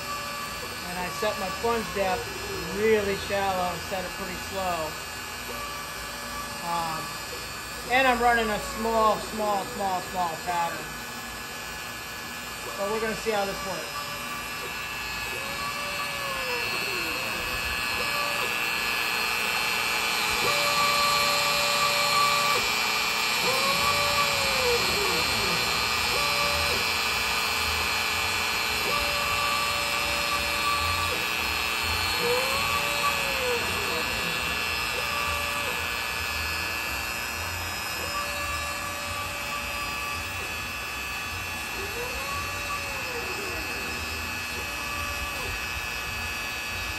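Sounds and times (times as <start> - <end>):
router motor high whine: 0.0 - 46.9
stepper motors singing tones: 0.0 - 46.9.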